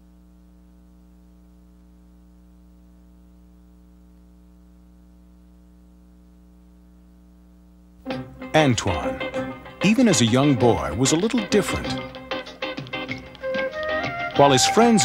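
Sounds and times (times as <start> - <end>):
electrical hum: 0.0 - 15.0
tape hiss: 0.0 - 15.0.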